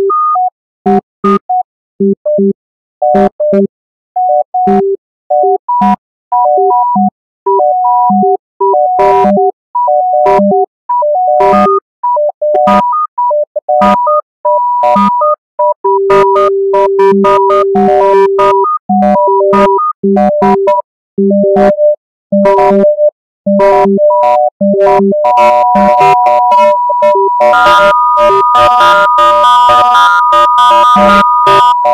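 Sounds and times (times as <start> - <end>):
electronic beep tones: 0.0 - 31.9.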